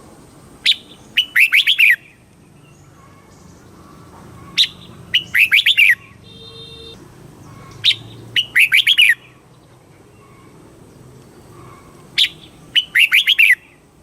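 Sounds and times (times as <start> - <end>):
bird singing chirping phrases: 0.6 - 13.9.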